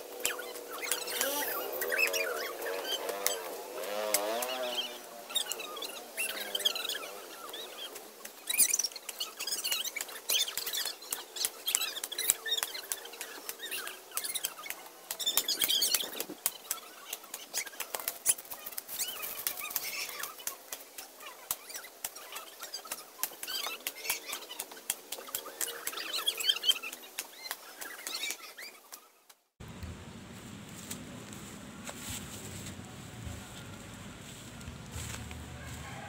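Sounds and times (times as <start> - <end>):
cut grass rustling: 0.0 - 27.2, 29.6 - 36.0.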